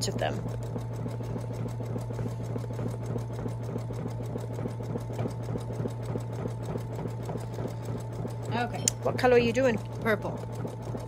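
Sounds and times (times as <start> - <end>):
embroidery machine needle strokes: 0.0 - 11.0
motor hum: 0.0 - 11.0.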